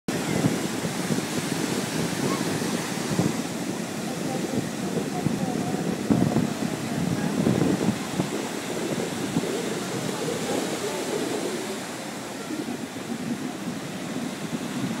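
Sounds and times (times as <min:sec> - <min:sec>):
sea surf breaking on sand: 0:00.1 - 0:15.0.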